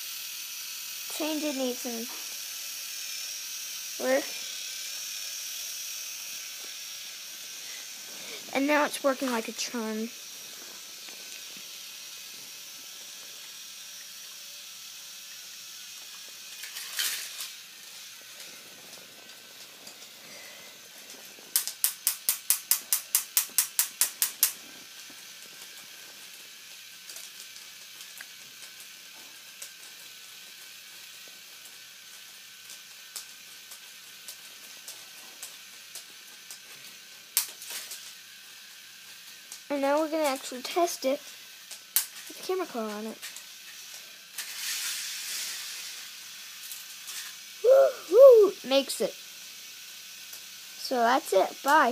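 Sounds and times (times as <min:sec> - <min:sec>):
faint steady hiss: 0:00.0 - 0:51.9.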